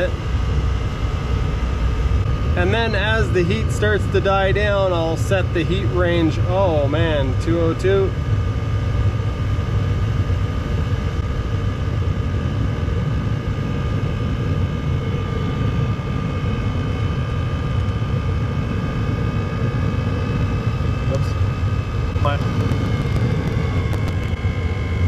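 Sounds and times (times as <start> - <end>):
diesel heater rumbling: 0.0 - 25.0
thin steady whine: 0.0 - 25.0.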